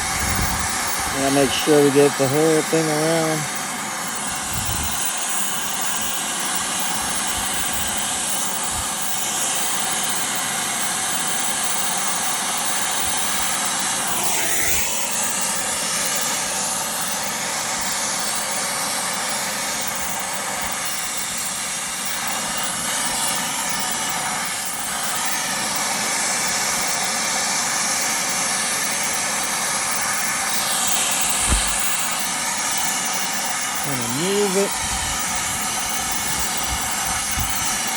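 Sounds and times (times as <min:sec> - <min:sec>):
torch flame hissing: 0:00.0 - 0:37.9.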